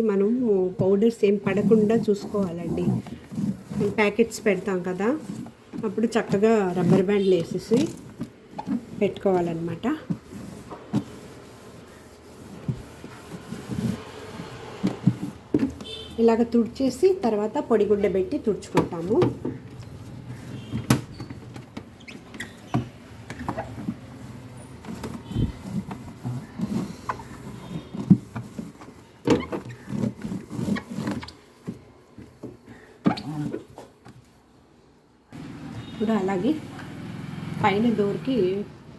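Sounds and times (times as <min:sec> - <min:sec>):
cloth rubbing inside refrigerator: 0:00.0 - 0:38.9.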